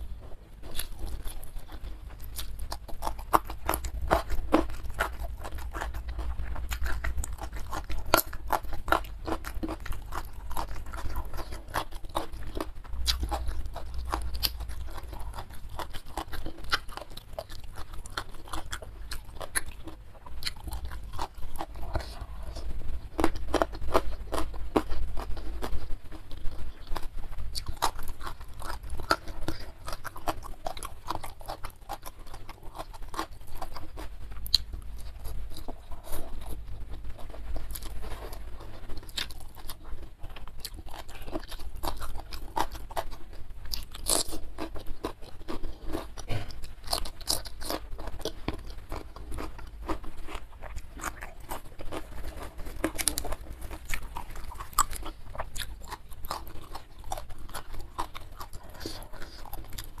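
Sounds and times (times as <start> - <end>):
chewing and crunching food: 0.0 - 60.0.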